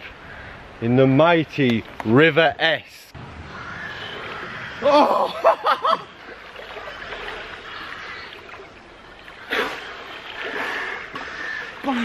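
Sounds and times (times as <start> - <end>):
water splashing and sloshing: 1.4 - 12.0.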